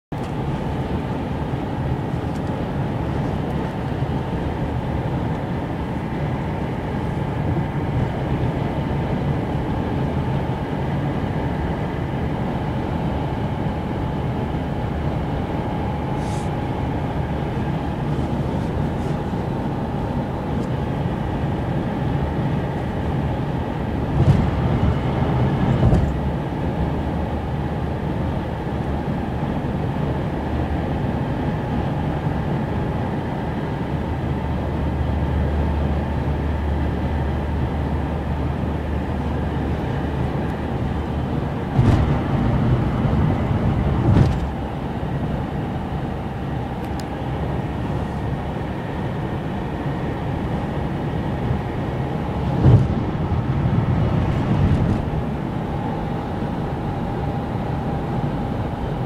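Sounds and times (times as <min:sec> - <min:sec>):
car road and engine noise: 0:00.1 - 0:59.0.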